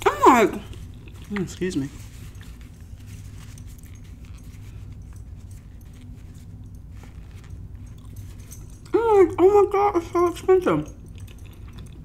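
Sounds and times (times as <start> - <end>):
paper napkin rustling: 0.0 - 9.9
low hum: 0.0 - 12.0.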